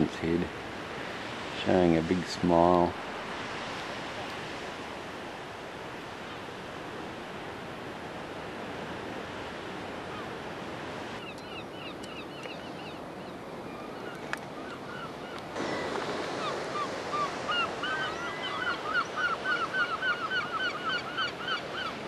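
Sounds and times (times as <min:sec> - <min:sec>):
surf washing onto shore: 0:00.0 - 0:11.3, 0:14.2 - 0:22.0.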